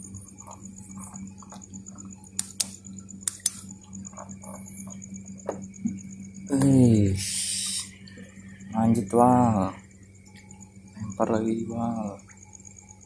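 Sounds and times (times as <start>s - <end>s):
pulsing insect trill: 0.0s - 13.0s.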